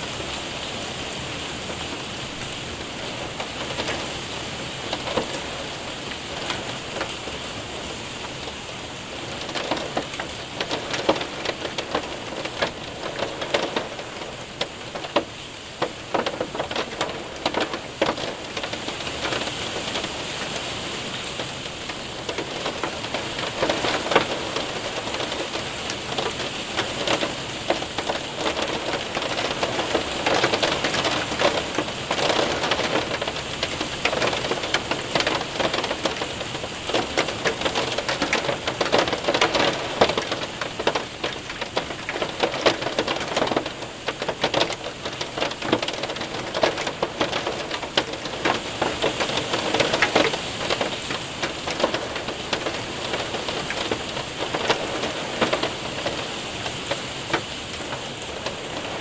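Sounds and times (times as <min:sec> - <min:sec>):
rain hissing: 0:00.0 - 0:59.0
hailstones tapping on window: 0:01.6 - 0:59.0.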